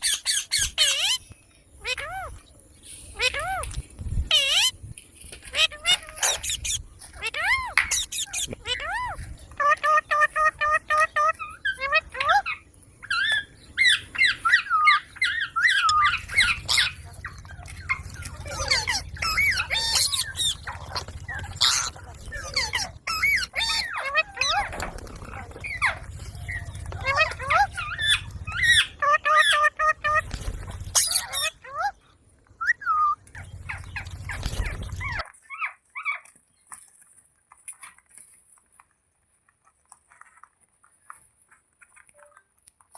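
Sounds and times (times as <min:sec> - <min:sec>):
parakeet squawking and chattering: 0:00.0 - 0:02.4, 0:03.1 - 0:32.0, 0:32.6 - 0:36.2.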